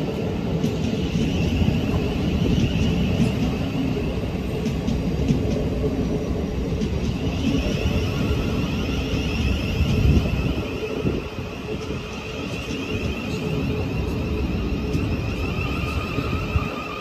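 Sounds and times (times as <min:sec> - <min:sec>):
electric train whine: 0:00.0 - 0:17.0
train rumble: 0:00.0 - 0:17.0.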